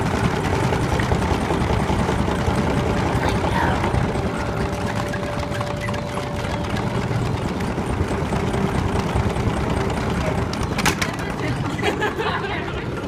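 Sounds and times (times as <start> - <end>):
shake table rumbling and rattling: 0.0 - 13.0.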